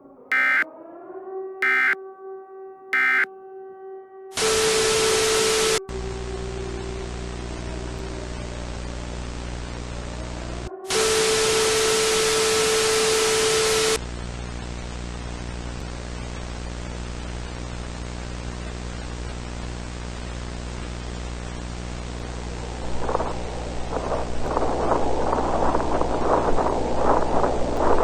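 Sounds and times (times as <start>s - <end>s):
loud static hiss with tone: 0.3s - 0.6s, 1.6s - 2.0s, 3.0s - 3.2s, 4.4s - 28.0s.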